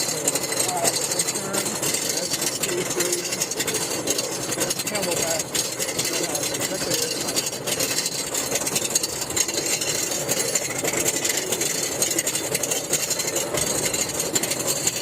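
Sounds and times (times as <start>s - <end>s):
roller coaster chain rattling: 0.0s - 15.0s.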